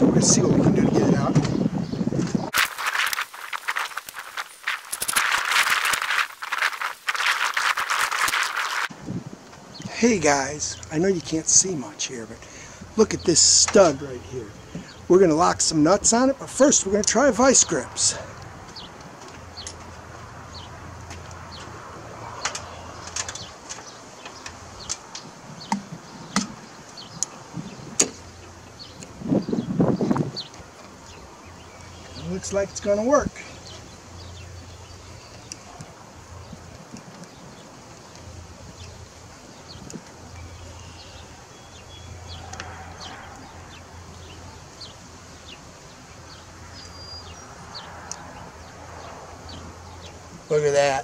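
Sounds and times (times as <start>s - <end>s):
birds chirping: 0.0s - 8.9s, 9.5s - 51.0s.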